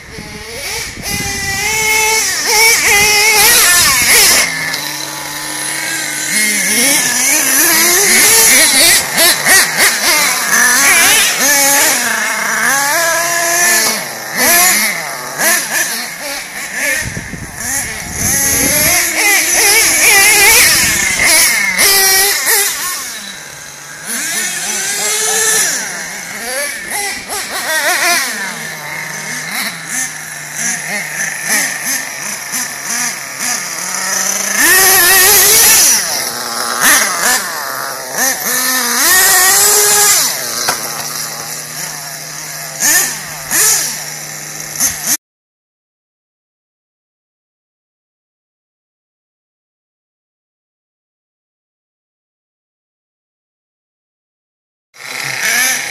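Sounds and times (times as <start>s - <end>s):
model truck engine revving: 0.0s - 45.2s, 55.0s - 55.9s.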